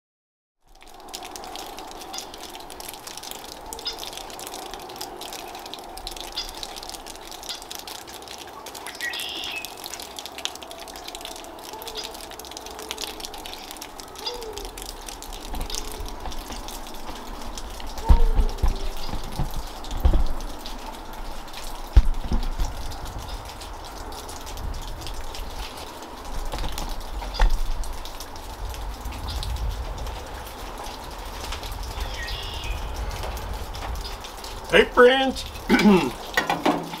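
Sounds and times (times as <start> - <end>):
running and dripping water: 0.6 - 37.0
small ticks: 0.7 - 34.6.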